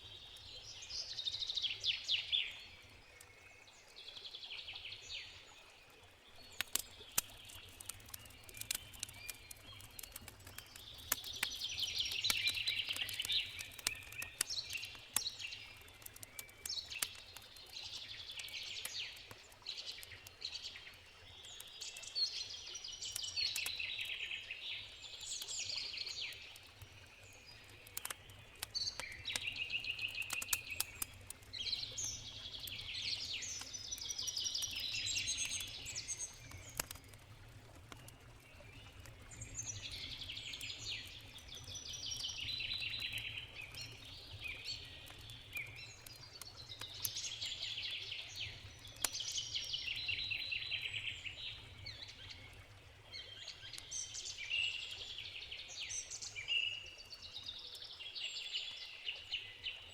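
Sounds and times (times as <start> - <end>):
small birds singing: 0.0 - 59.9
campfire crackling: 6.3 - 56.3.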